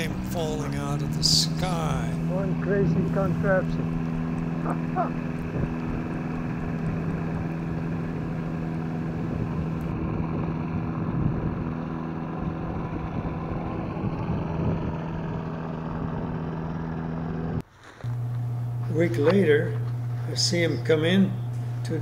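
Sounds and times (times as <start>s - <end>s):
light aircraft engine and propeller drone: 0.0s - 22.0s.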